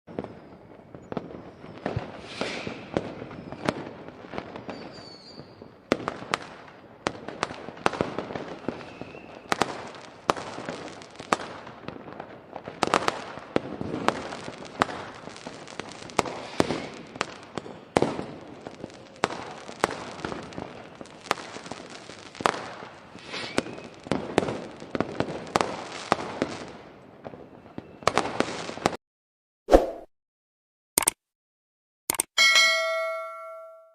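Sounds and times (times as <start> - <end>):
firecrackers banging and crackling: 0.1 - 29.0.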